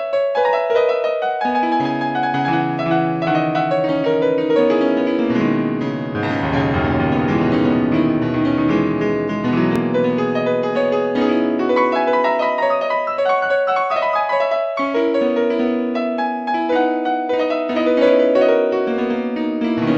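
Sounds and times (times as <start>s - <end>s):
solo piano music: 0.0s - 19.9s.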